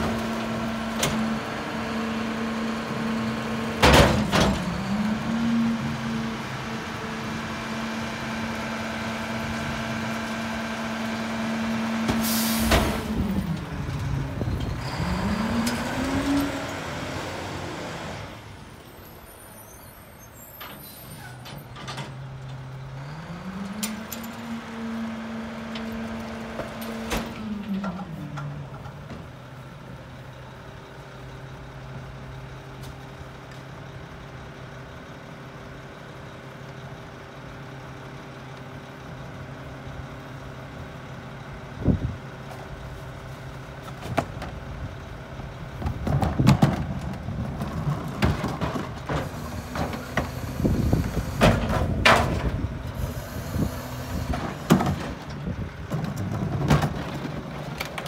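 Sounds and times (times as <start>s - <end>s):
diesel truck engine revving and idling: 0.0s - 21.4s, 22.1s - 58.0s.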